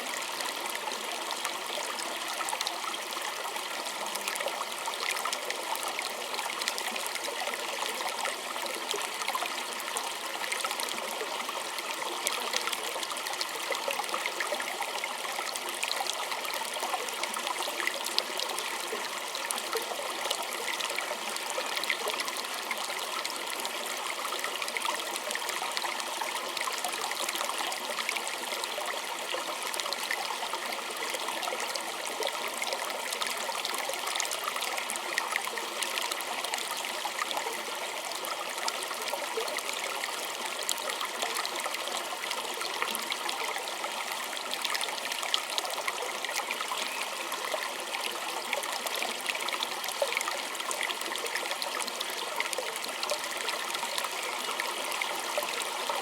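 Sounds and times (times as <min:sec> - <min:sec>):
stream babbling over stones: 0:00.0 - 0:56.0.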